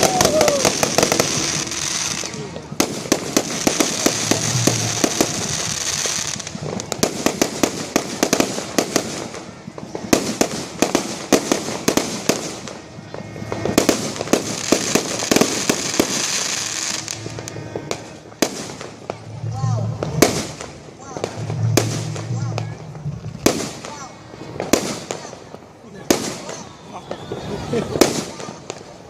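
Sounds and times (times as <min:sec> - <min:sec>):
fireworks bangs and crackles: 0:00.0 - 0:29.0
fireworks hissing spray: 0:00.0 - 0:29.0.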